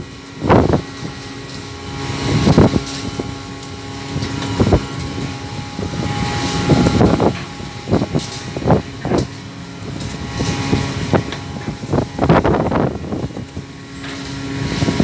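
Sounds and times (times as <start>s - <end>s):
boat engine running: 0.0s - 15.0s
rushing wind and sea surges: 0.0s - 15.0s.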